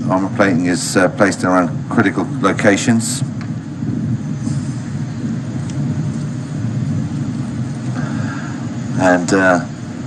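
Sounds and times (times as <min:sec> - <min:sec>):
distant jet aircraft rumble: 0:00.0 - 0:10.0.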